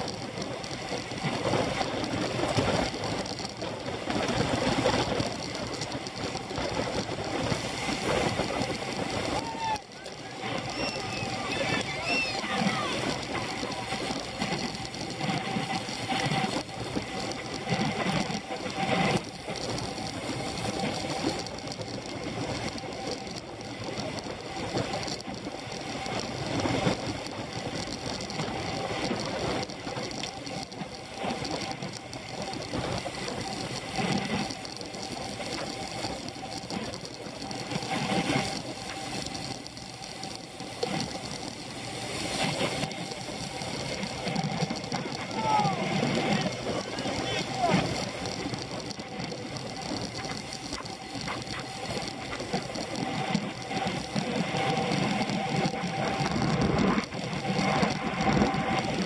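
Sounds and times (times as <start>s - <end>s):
bicycle drivetrain and tyres running: 0.0s - 59.0s.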